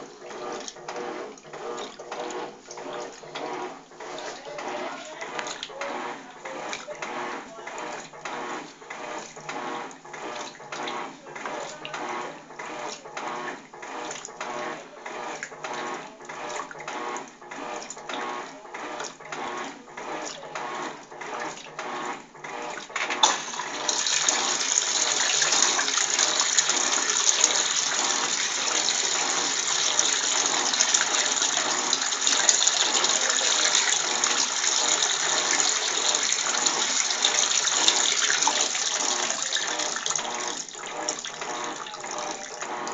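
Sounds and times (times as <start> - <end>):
washing machine agitator swishing: 0.0 - 42.9
water gushing into drum: 0.0 - 42.9.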